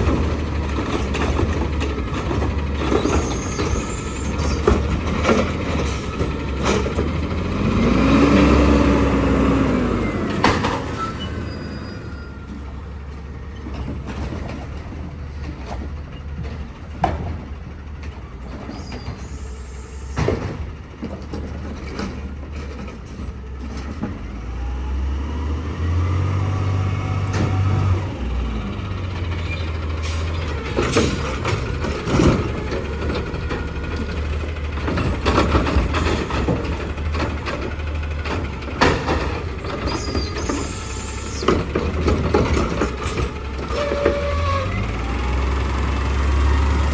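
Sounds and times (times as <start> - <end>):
diesel truck engine revving: 0.0 - 17.8, 23.7 - 46.9.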